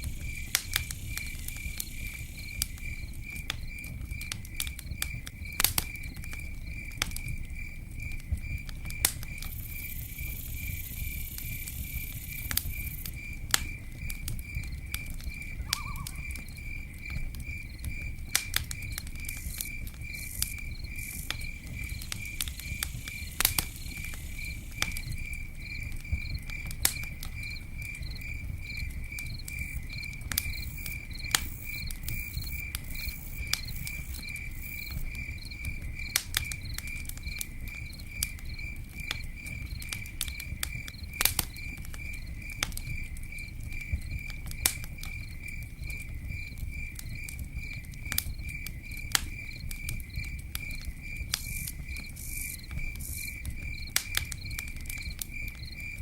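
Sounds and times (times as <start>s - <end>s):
campfire crackling and popping: 0.0s - 56.0s
cricket chirping: 0.0s - 56.0s.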